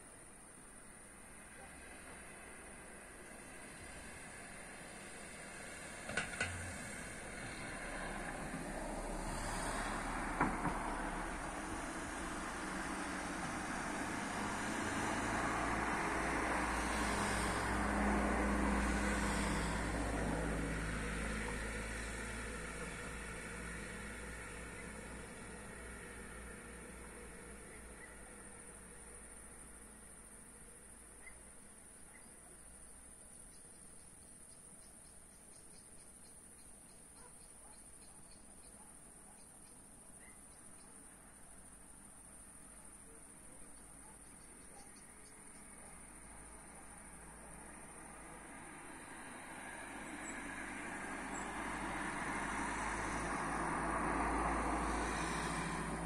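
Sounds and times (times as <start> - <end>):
crickets trilling: 0.1 - 56.0
car passing: 1.0 - 31.1, 41.0 - 56.0.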